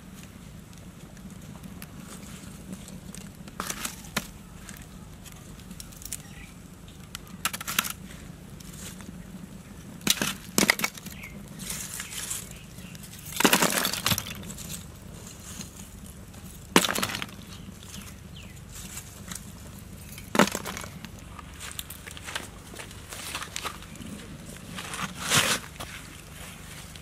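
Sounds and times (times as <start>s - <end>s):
charcoal lumps clinking: 1.2s - 6.4s, 7.0s - 9.1s, 9.8s - 26.3s.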